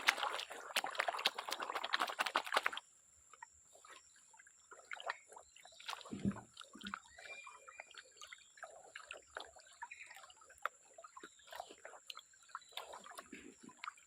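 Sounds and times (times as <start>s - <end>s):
dull splash: 0.0s - 2.9s, 3.8s - 14.0s
water sloshing and trickling: 0.0s - 14.0s.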